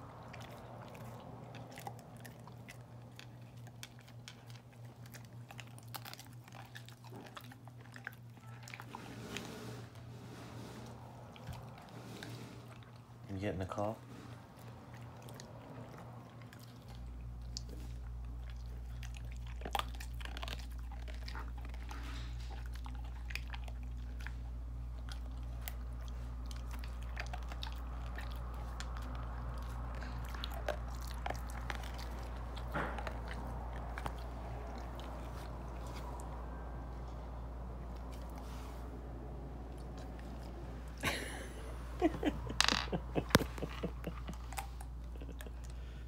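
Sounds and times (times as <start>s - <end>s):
dog crunching almonds: 0.0s - 10.2s, 10.8s - 38.7s, 39.3s - 41.3s, 41.9s - 46.0s
steady low hum: 0.0s - 46.0s.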